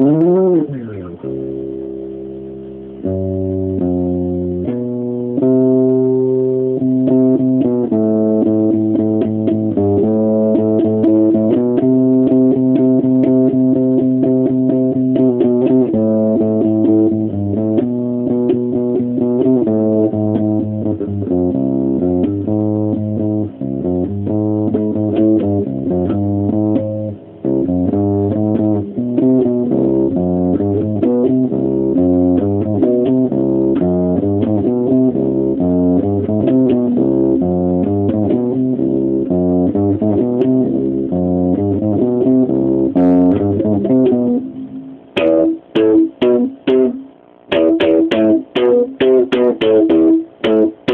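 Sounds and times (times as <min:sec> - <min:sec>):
electric bass guitar riff: 0:00.0 - 0:50.9.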